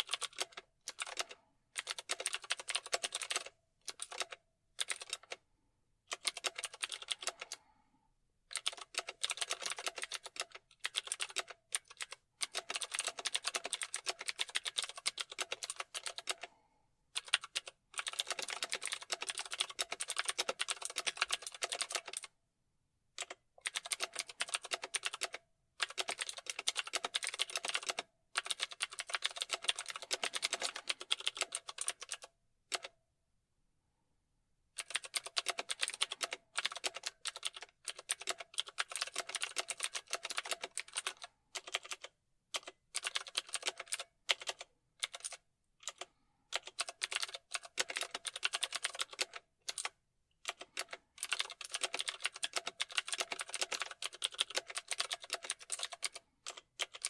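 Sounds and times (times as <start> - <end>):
fast typing on keyboard: 0.0 - 5.4, 6.1 - 7.6, 8.5 - 16.6, 17.2 - 22.3, 23.2 - 33.0, 34.8 - 57.0.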